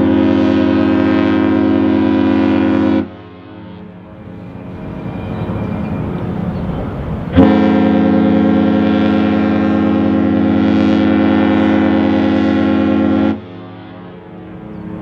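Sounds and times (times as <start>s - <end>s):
ship's horn blast: 0.0s - 15.0s.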